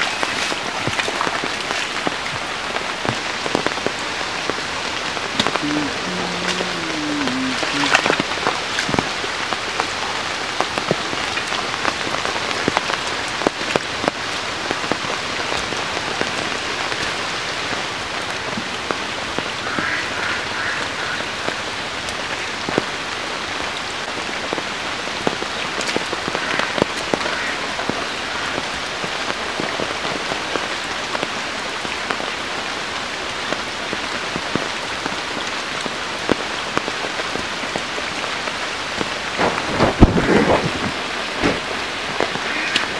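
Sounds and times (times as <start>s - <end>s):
heavy rain on floodwater: 0.0s - 42.9s.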